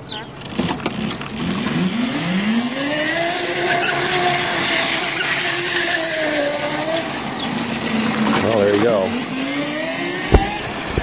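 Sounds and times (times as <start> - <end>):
electric motor whine: 0.5 - 11.0.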